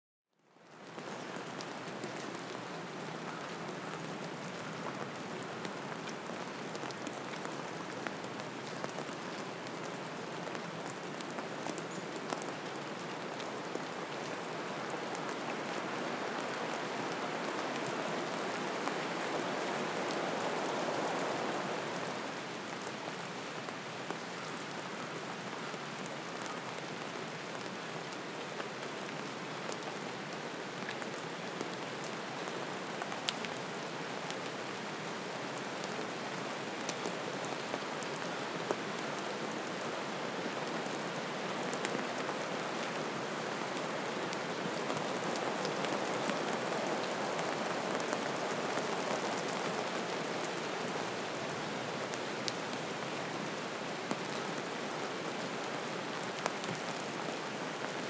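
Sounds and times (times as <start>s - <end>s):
steady rain hiss: 0.5s - 58.0s
raindrops pattering: 0.6s - 33.8s, 34.6s - 51.3s.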